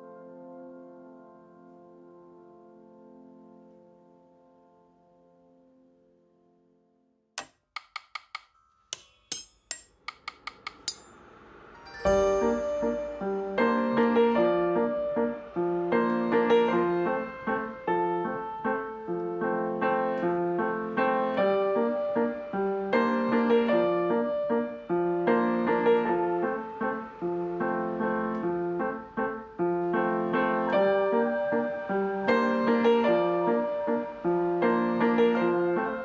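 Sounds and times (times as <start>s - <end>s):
piano music: 0.0s - 6.8s, 11.7s - 36.0s.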